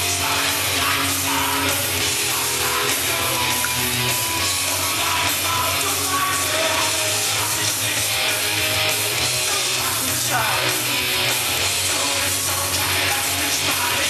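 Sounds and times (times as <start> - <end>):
heavy rock music: 0.0 - 14.0.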